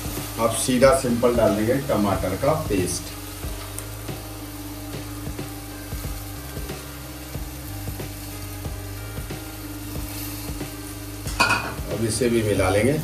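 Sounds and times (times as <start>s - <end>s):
masala sizzling and crackling: 0.0s - 13.0s.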